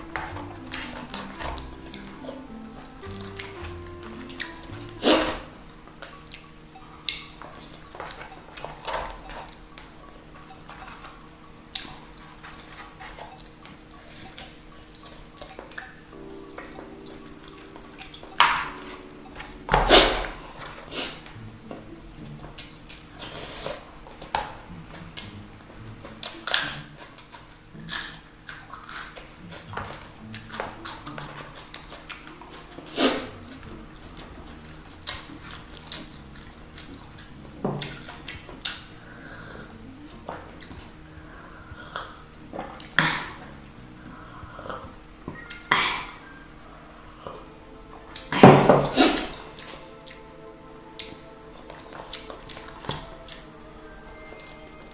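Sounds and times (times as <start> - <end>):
chewing and crunching: 0.0 - 54.9.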